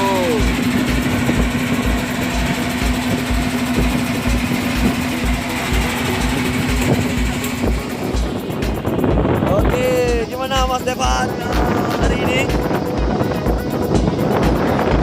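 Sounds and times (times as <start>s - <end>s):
boat engine thumping: 0.0s - 15.0s.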